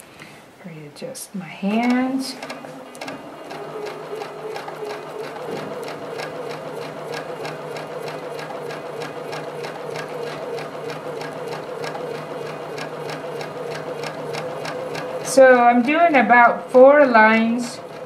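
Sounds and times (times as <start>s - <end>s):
sewing machine running: 1.7s - 18.0s.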